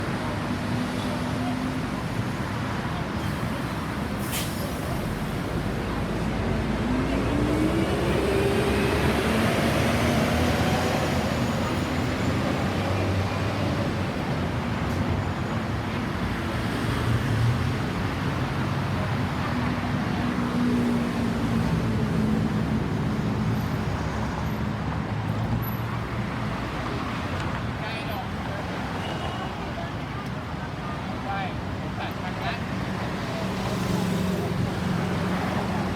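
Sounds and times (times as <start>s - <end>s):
road traffic: 0.0s - 35.9s.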